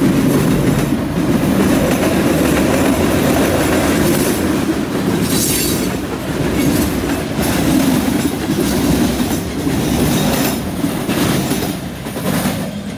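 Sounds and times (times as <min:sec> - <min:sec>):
freight train rolling past: 0:00.0 - 0:12.9
steel wheels clattering on rails: 0:00.0 - 0:12.9.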